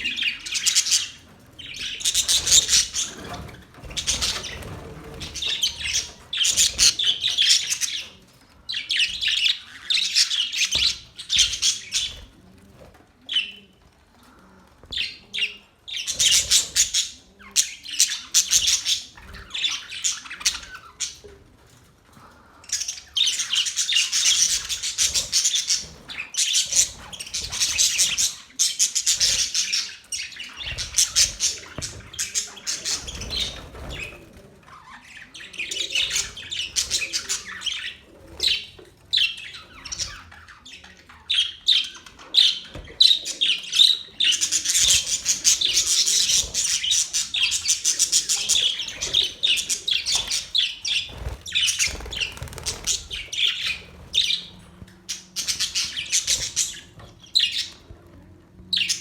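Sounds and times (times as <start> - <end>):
budgies chattering and chirping: 0.0 - 59.0.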